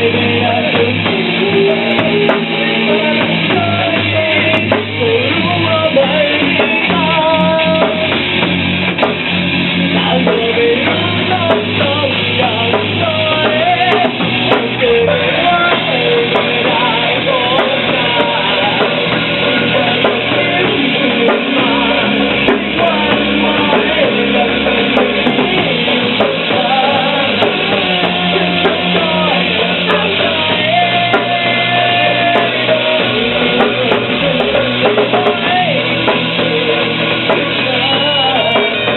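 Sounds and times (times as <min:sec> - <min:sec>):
loud rock music: 0:00.0 - 0:38.9.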